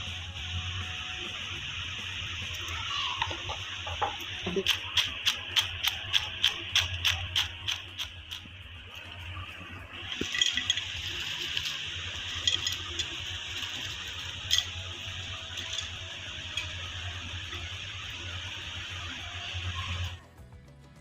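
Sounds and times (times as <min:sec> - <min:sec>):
potatoes sizzling in oil: 0:00.0 - 0:20.2.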